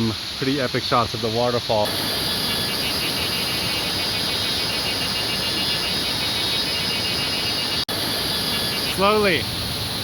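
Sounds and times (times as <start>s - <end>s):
insects chirping: 0.0s - 10.0s
waterfall rushing: 1.9s - 10.0s.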